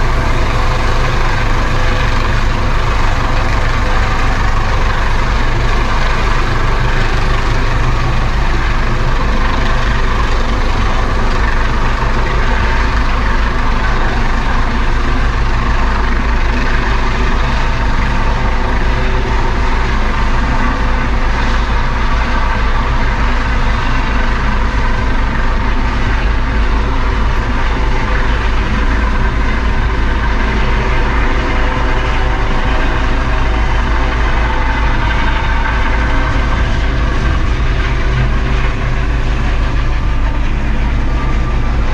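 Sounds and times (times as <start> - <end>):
helicopter rotor and engine: 0.0 - 41.9.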